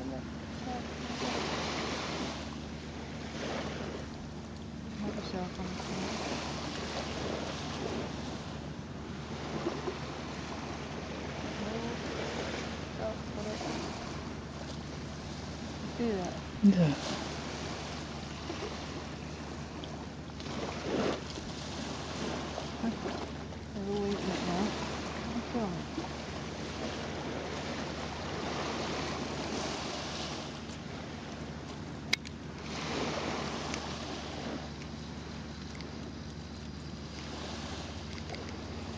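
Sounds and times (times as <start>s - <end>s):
small waves lapping on sand: 0.0s - 38.9s.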